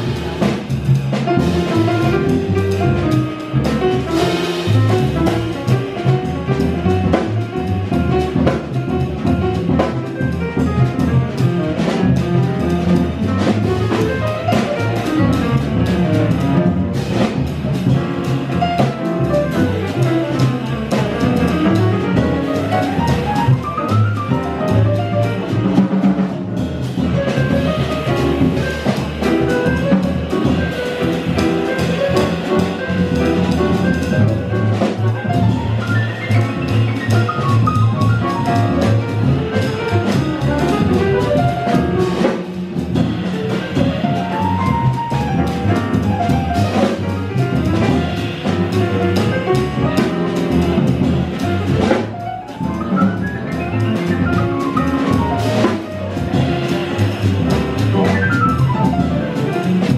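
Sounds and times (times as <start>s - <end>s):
drums and cymbals played with sticks: 0.0s - 59.9s
piano: 0.0s - 59.9s
upright bass: 0.0s - 59.9s.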